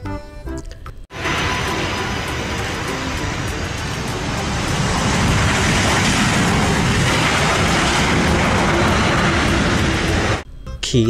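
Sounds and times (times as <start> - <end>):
jet engines roaring: 1.1 - 10.4.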